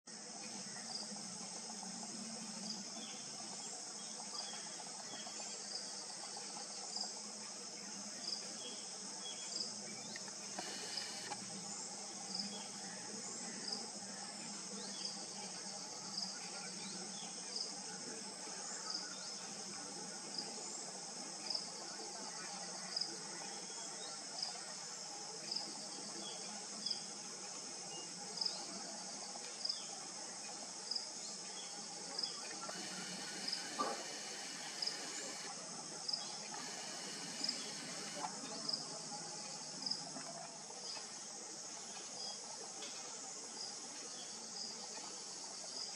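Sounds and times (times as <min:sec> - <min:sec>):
high-pitched insect chorus: 0:00.1 - 0:45.9.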